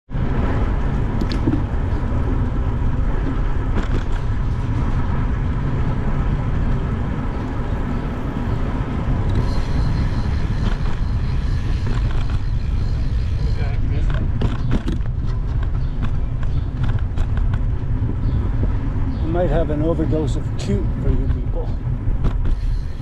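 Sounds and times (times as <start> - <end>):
loud low rumbling: 0.1 - 23.0.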